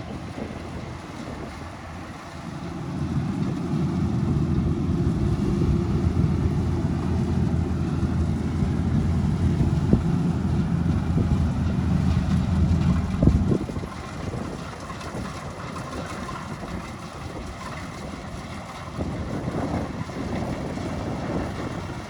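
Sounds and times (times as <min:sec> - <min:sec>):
combine harvester engine hum: 0:00.0 - 0:22.0.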